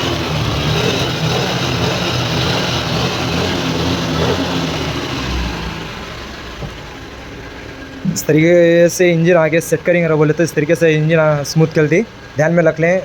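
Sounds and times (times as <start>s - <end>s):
scooter engine running steadily: 0.0s - 13.0s.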